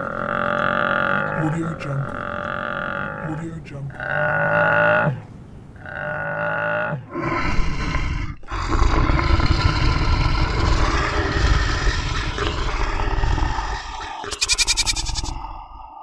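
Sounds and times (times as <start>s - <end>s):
long rough animal roar: 0.0s - 5.2s, 5.8s - 16.0s.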